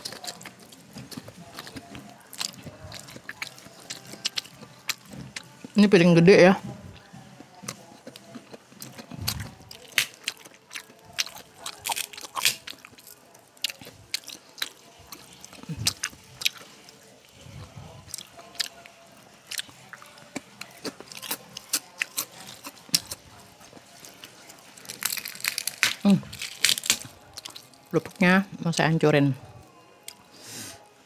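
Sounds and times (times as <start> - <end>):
crackers crunching: 0.0 - 5.8, 7.0 - 28.3.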